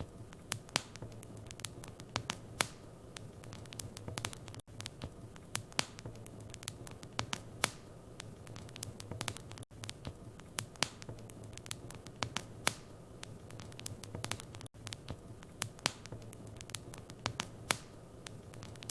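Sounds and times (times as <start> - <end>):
soft hiss: 0.0 - 18.9
wood fire crackling: 0.0 - 18.9.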